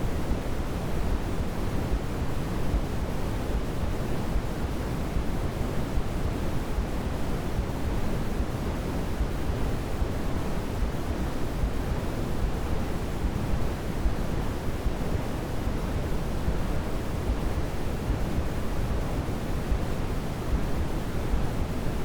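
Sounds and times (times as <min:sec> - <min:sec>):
steady white noise: 0:00.0 - 0:22.0.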